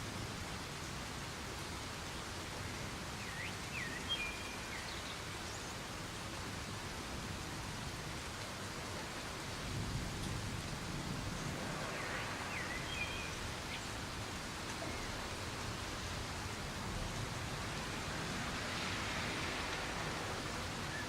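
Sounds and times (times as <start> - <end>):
soft rain: 0.0 - 21.0.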